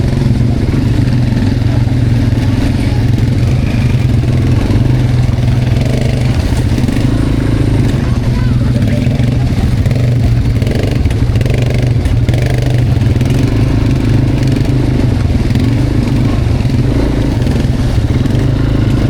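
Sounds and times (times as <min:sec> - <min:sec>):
quad bike engine droning: 0:00.0 - 0:19.0.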